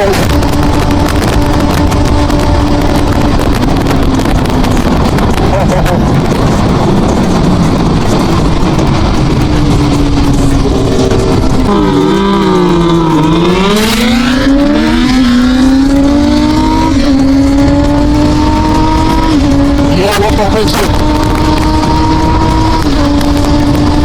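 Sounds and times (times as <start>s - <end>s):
motorcycle engine accelerating: 0.0s - 24.0s
rushing noise: 0.0s - 24.0s.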